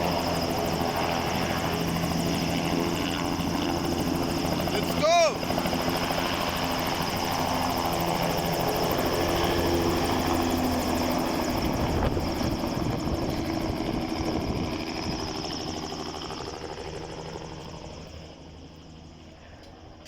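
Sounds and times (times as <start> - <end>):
helicopter rotor beating: 0.0 - 20.0.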